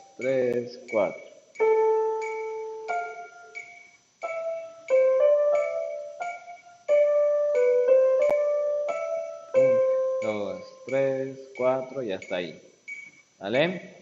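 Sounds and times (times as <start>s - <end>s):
keyboard piano melody: 0.0s - 12.4s
metronome clicks: 0.0s - 13.2s.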